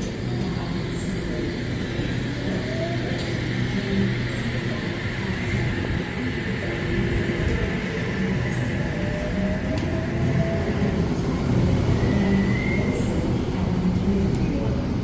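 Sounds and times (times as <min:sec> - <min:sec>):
electric train rumbling: 0:00.0 - 0:15.0
faint train whine: 0:00.0 - 0:15.0.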